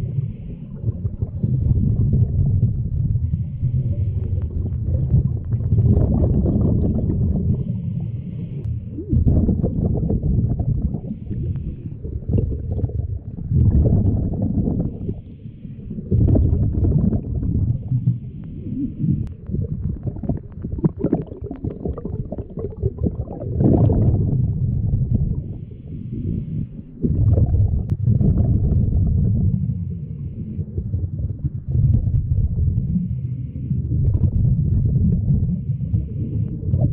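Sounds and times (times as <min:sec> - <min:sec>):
regulator bubbles gurgling: 0:00.0 - 0:36.9.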